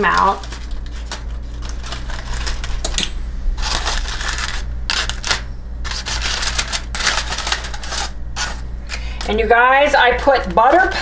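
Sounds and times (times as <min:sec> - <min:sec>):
aluminium foil crinkling: 0:00.0 - 0:03.0, 0:03.6 - 0:09.5, 0:10.1 - 0:11.0.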